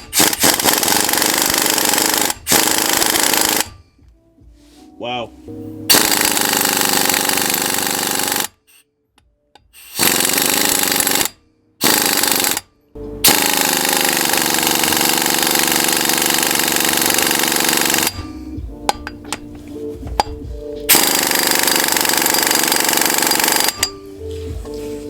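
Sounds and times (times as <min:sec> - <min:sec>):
air impact wrench hammering: 0:00.0 - 0:03.8, 0:05.9 - 0:08.8, 0:09.6 - 0:24.1.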